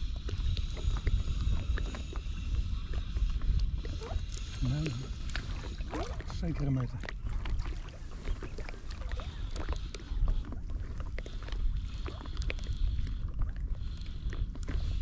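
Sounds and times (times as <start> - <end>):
water splashing and sloshing: 0.0 - 15.0
wind rumble on microphone: 0.0 - 15.0.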